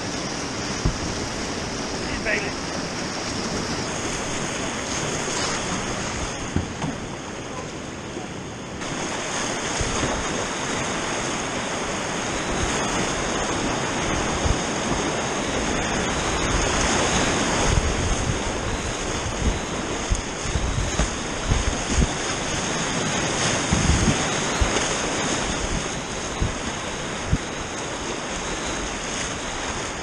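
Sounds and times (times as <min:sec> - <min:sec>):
river rapids rushing and splashing: 0:00.0 - 0:30.0.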